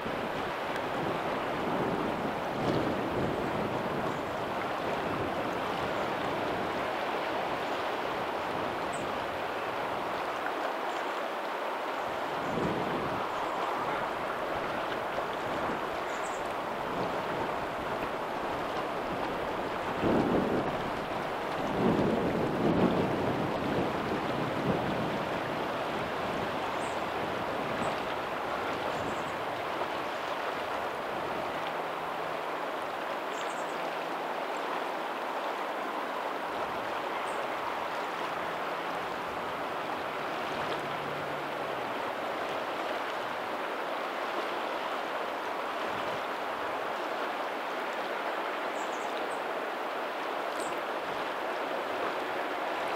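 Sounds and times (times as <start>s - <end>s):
rushing water: 0.0s - 52.9s
small waves on pebbly shore: 0.0s - 52.9s.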